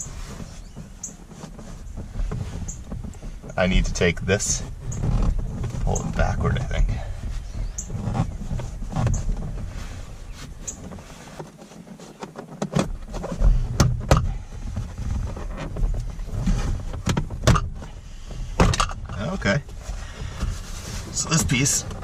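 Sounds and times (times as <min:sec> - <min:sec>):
plastic trim knocking and rubbing: 0:00.0 - 0:22.0.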